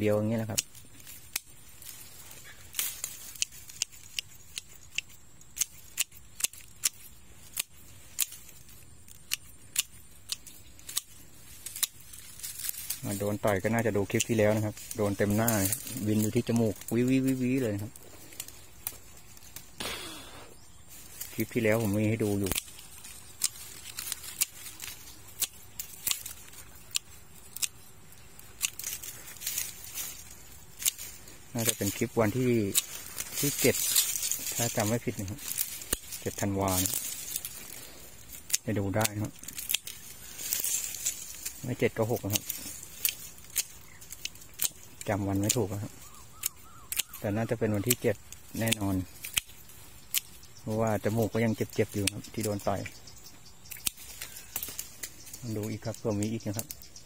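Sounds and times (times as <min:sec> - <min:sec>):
pruning shears snipping twigs: 0:00.0 - 0:57.0
sharp high clicks and snaps: 0:00.3 - 0:20.1, 0:21.0 - 0:57.0.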